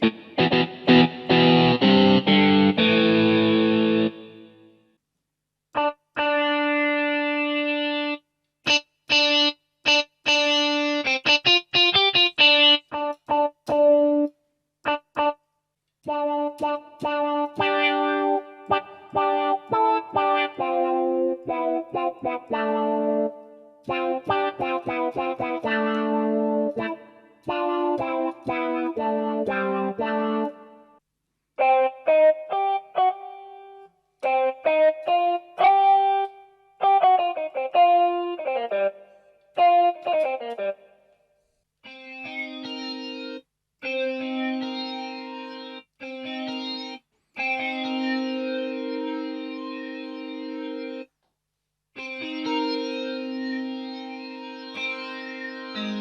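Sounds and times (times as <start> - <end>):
keyboard guitar tone notes: 0.0 - 4.7, 5.8 - 14.3, 14.9 - 15.4, 16.1 - 30.9, 31.6 - 39.0, 39.6 - 40.8, 41.8 - 51.1, 52.0 - 56.0.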